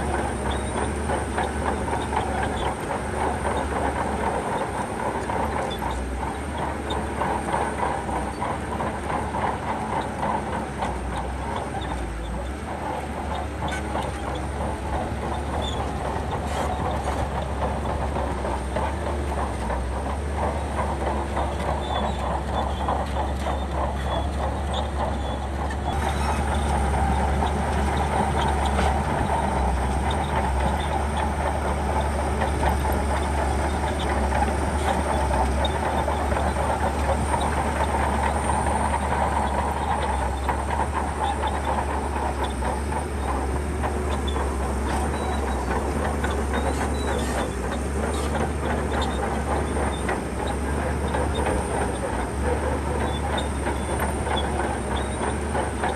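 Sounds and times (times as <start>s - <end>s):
steel tracks clattering: 0.0s - 11.4s, 13.0s - 55.9s
diesel engine running: 0.0s - 55.9s.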